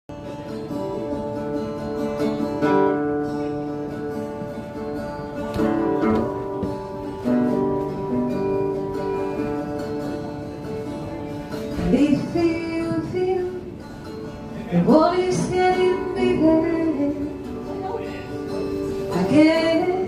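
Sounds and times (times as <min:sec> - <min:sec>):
acoustic guitar chords: 0:00.1 - 0:20.0.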